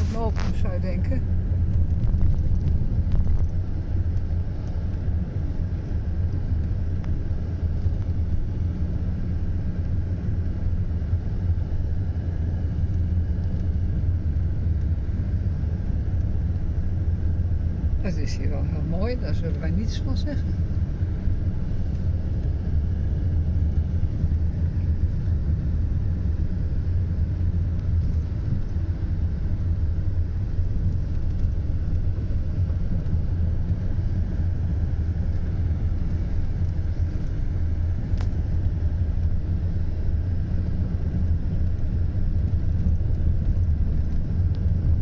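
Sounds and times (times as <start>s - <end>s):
car driving on bumpy road: 0.0s - 45.0s.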